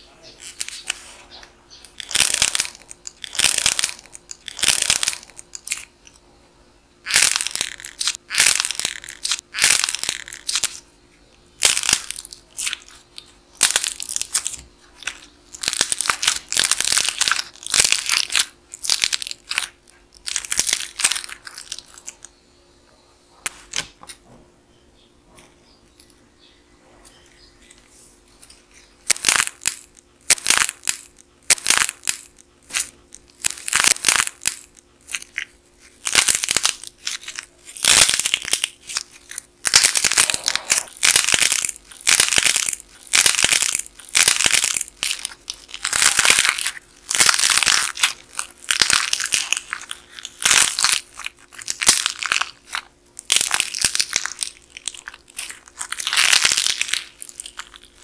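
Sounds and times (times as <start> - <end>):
dried clay cracking and crunching: 0.2 - 6.2, 7.0 - 22.4, 27.2 - 58.0.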